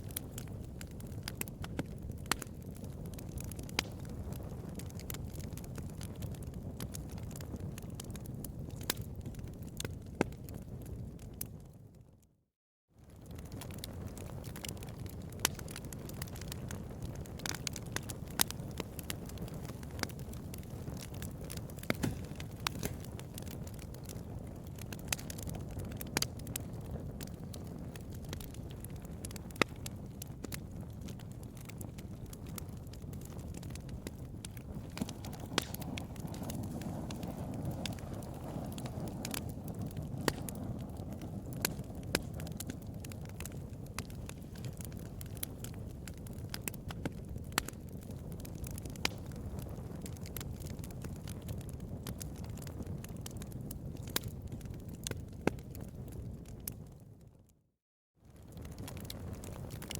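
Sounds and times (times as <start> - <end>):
fire popping and snapping: 0.0 - 12.0, 13.0 - 57.4, 58.3 - 59.9
bonfire rumble: 0.0 - 12.2, 13.0 - 57.4, 58.3 - 59.9.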